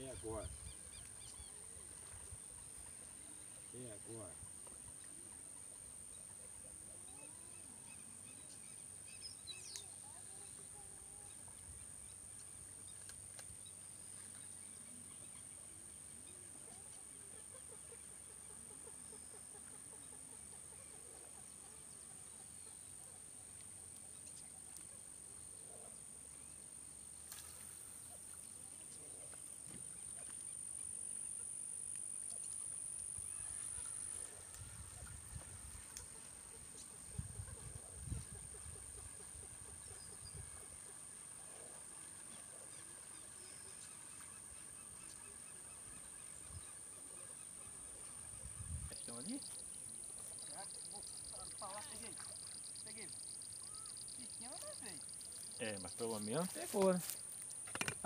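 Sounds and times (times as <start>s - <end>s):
faint outdoor ambience: 0.0s - 58.0s.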